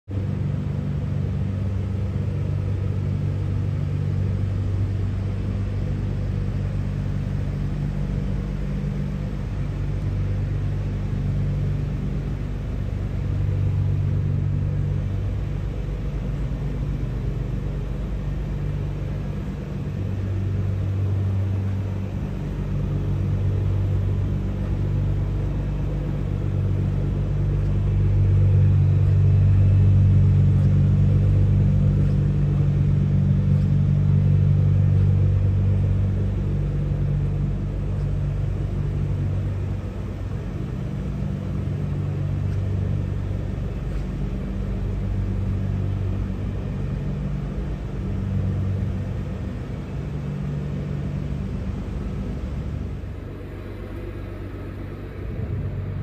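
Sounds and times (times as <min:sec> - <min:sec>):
car engine idling: 0:00.1 - 0:56.0.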